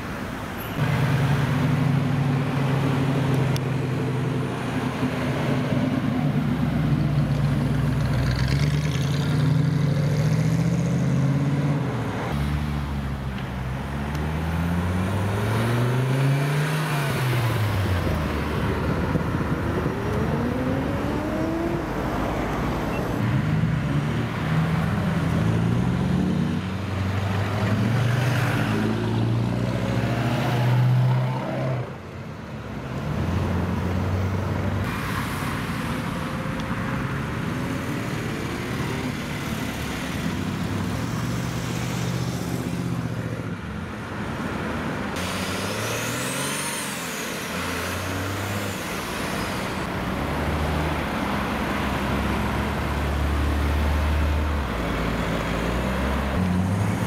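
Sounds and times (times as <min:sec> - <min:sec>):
vehicles accelerating past: 0:00.7 - 0:43.6, 0:44.2 - 0:57.0.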